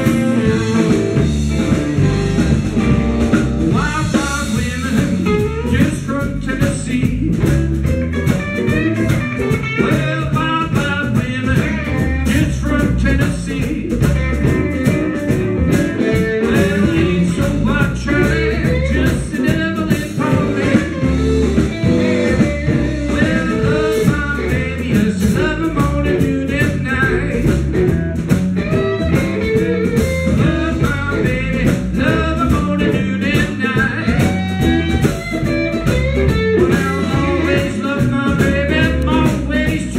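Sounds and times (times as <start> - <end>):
electric guitar lines: 0.0 - 39.9
live blues band playing: 0.0 - 39.9.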